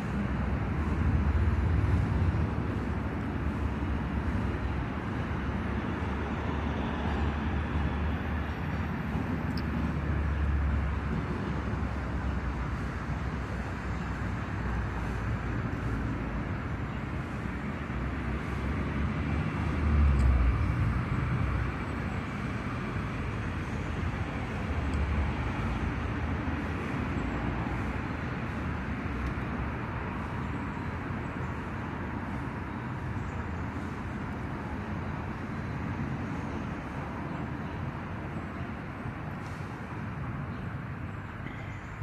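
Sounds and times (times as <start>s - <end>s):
low outdoor rumble: 0.0s - 42.0s.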